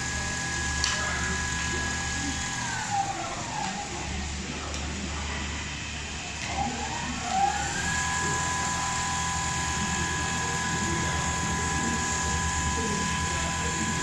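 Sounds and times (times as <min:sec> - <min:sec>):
sewing machine motors whining: 0:00.0 - 0:14.0.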